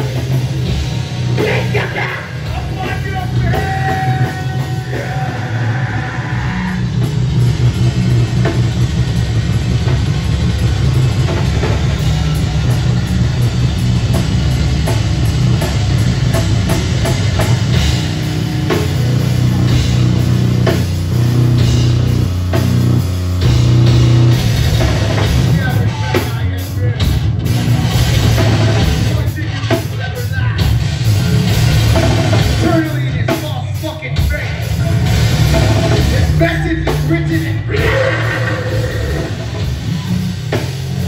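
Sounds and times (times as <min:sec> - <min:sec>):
drum kit pounding: 0:00.0 - 0:41.0
live rock band playing: 0:00.0 - 0:41.0.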